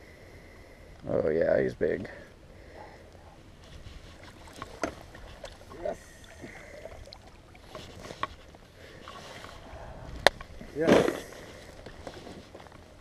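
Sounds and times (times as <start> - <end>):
low rumble of water and wind: 0.0 - 13.0.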